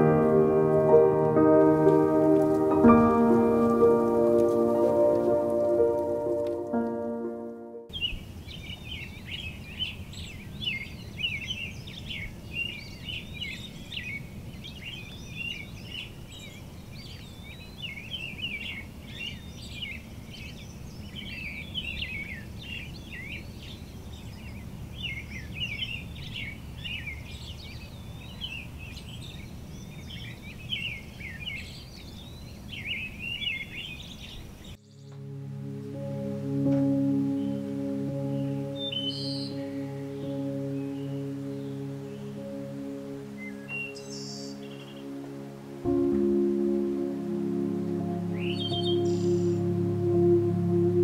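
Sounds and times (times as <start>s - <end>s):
birds chirping and trilling: 7.9s - 51.0s.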